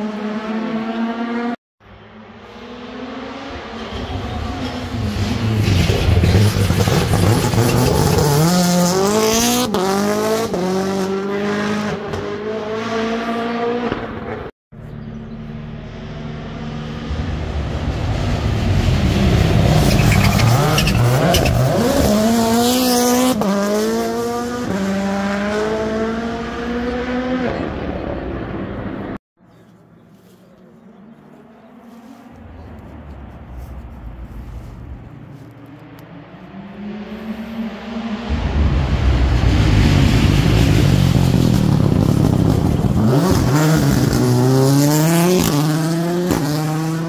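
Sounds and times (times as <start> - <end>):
rally car engine accelerating: 0.0 - 29.2, 35.6 - 47.0.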